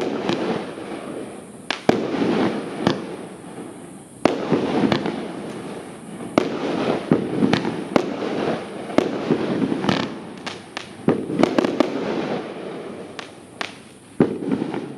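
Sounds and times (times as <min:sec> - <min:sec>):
continuous hiss: 0:00.0 - 0:14.9
firework shells bursting: 0:00.0 - 0:14.9.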